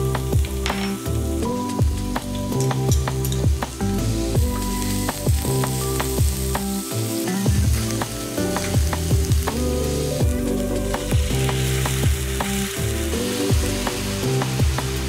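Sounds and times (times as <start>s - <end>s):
background music with a beat: 0.0s - 15.0s
food sizzling in hot oil: 0.0s - 15.0s.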